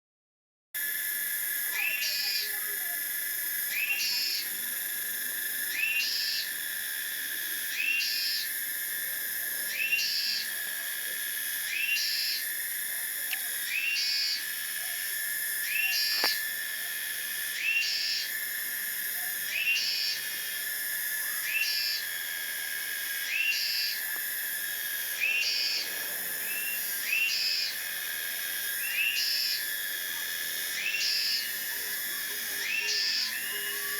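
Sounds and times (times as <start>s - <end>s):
cicadas singing: 0.8s - 33.9s.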